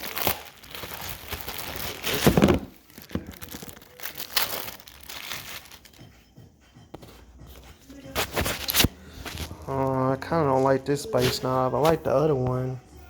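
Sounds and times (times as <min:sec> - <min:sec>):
packaging crinkling and rustling: 0:00.0 - 0:06.1, 0:07.9 - 0:12.2.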